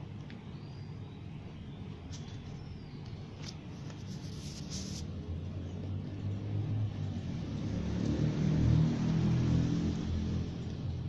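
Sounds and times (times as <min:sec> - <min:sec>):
kittens chewing grass: 0:01.3 - 0:11.0.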